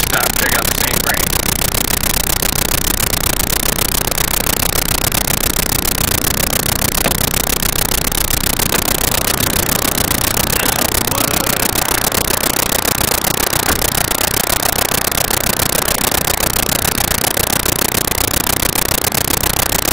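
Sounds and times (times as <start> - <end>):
harsh static hiss with crackle: 0.0 - 19.9.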